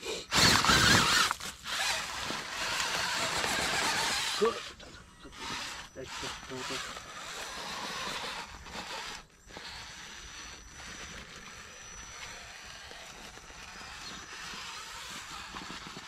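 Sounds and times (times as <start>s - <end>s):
electric motor of toy car: 0.0s - 16.0s.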